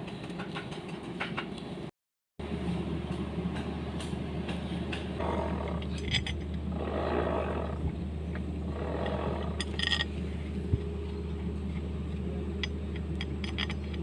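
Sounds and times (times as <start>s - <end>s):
tractor diesel engine running: 2.4s - 14.0s.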